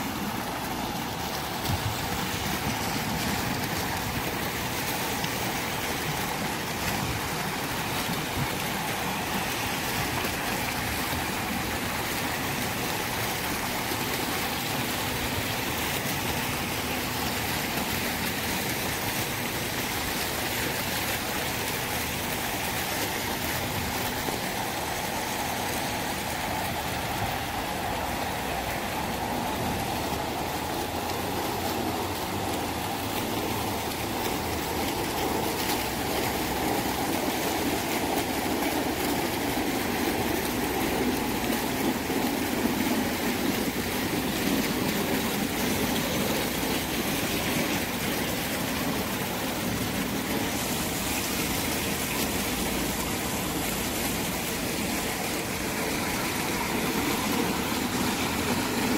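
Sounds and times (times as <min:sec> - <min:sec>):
fountain jets splashing: 0:00.0 - 0:58.9.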